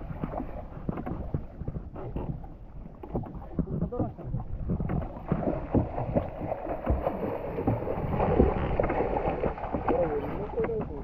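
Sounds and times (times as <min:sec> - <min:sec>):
sea water splashing against boat: 0:00.0 - 0:11.0
wind buffeting microphone: 0:00.0 - 0:11.0.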